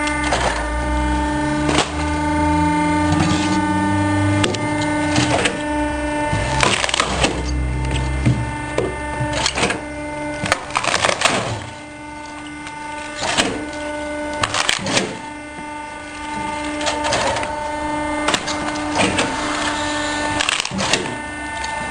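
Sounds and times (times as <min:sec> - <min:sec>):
hydraulic machine whining: 0:00.0 - 0:21.9.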